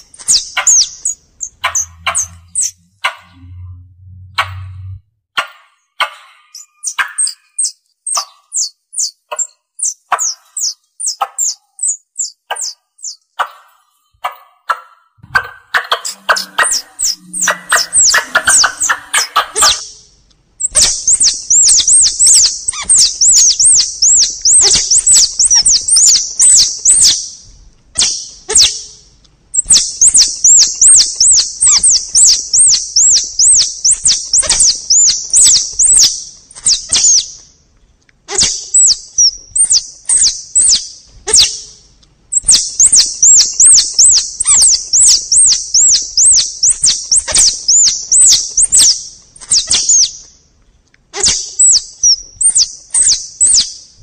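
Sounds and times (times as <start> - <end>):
squirrel call high chirps: 0.0 - 3.6, 5.4 - 27.4, 28.0 - 37.4, 38.3 - 50.3, 51.2 - 53.9.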